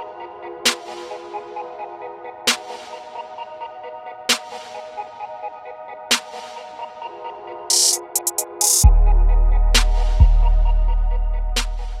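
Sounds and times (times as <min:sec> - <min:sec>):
electronic hip-hop beat: 0:00.0 - 0:12.0.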